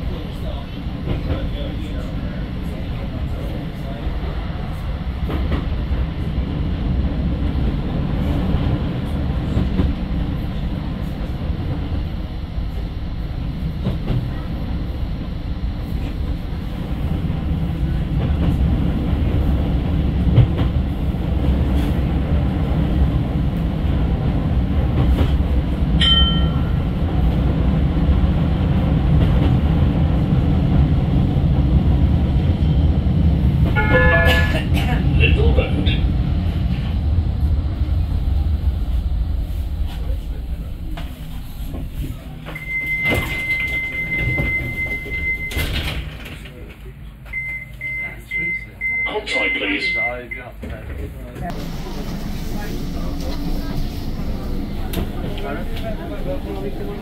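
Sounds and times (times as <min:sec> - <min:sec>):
tram wheels and motors rumbling: 0:00.0 - 0:48.0, 0:50.4 - 0:57.0.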